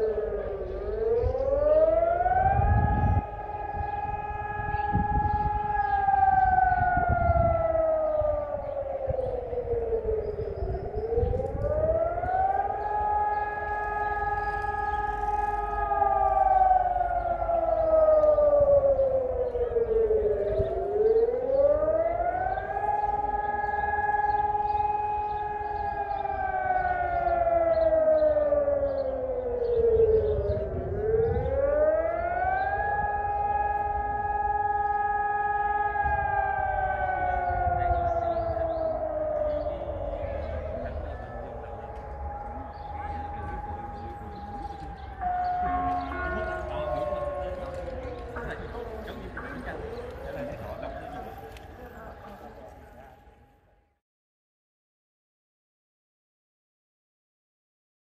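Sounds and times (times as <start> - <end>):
warning siren wailing: 0.0 - 53.8.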